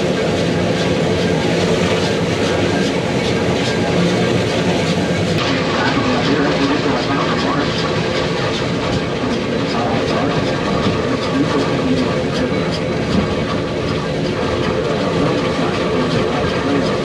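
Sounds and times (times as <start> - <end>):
cog train rumbling and clattering: 0.0 - 17.0.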